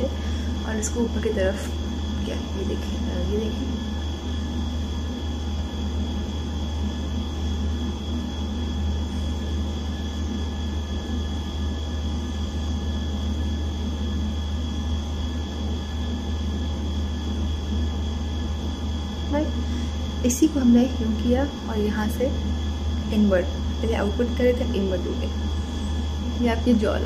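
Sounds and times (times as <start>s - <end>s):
high-pitched whines: 0.0s - 27.0s
low hum: 0.0s - 27.0s.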